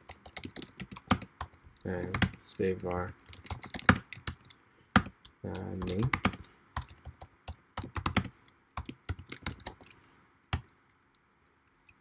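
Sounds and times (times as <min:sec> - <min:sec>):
computer keyboard typing: 0:00.0 - 0:10.6.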